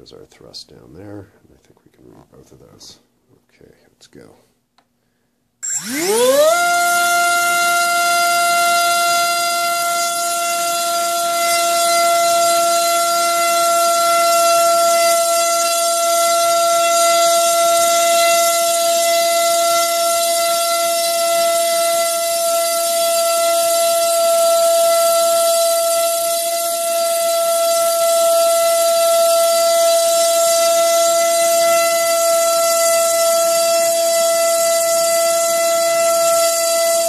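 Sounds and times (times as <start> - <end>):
electric motor whining: 5.6 - 37.0.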